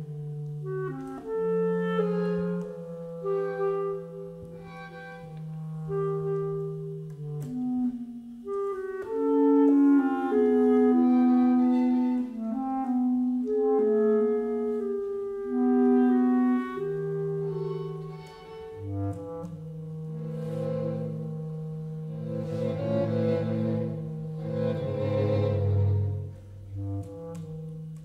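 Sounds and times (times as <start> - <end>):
chamber ensemble playing: 0.0 - 28.0
clarinet: 0.0 - 28.0.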